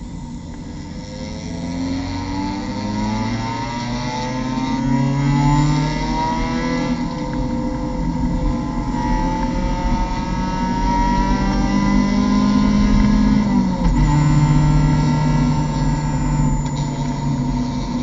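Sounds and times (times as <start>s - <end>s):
race car engine pulling hard: 0.9s - 18.0s.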